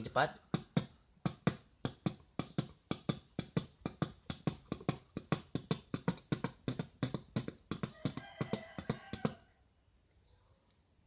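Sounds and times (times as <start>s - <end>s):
beatboxed heartbeat thumps: 0.0s - 9.4s.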